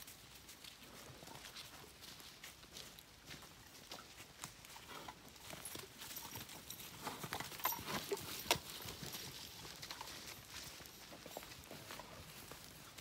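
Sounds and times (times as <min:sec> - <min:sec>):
footsteps on leafy dirt trail: 0:00.0 - 0:13.0
horse hooves on dirt trail: 0:00.0 - 0:13.0.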